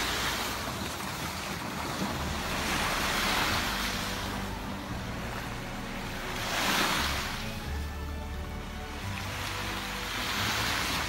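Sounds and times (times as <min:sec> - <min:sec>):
water splashing and churning: 0:00.0 - 0:11.0
wind on microphone: 0:00.0 - 0:11.0.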